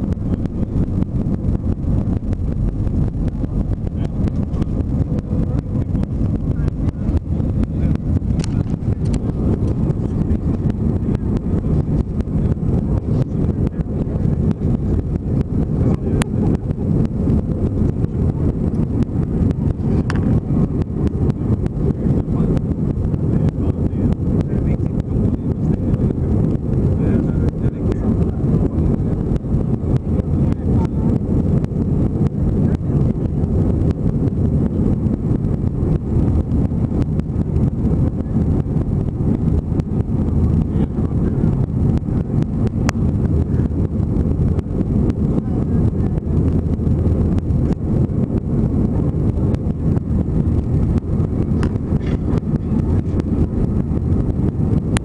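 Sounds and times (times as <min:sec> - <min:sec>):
airplane cabin engine and airflow noise: 0:00.0 - 0:55.0.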